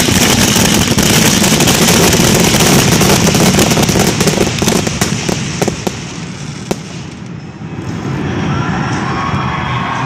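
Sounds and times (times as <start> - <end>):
fireworks crackling and banging: 0.0 - 9.4.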